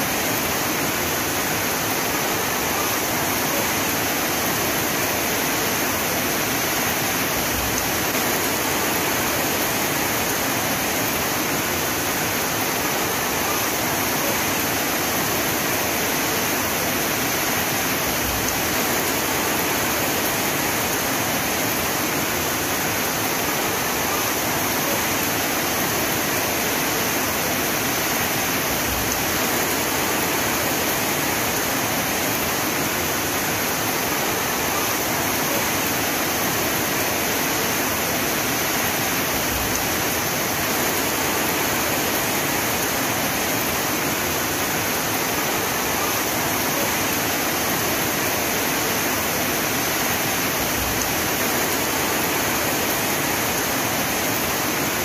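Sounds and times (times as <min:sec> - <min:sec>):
heavy rain hiss: 0:00.0 - 0:55.0.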